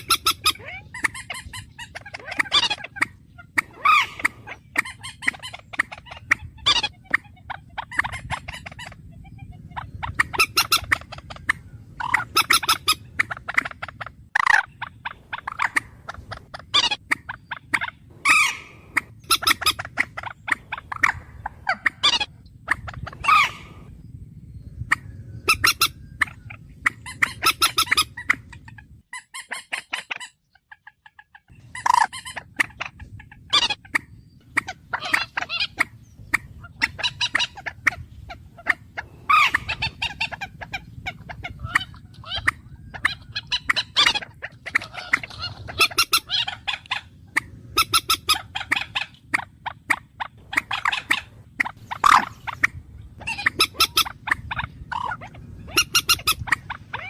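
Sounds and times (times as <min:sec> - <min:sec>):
low steady hum: 0:00.0 - 0:29.6, 0:30.2 - 0:57.0.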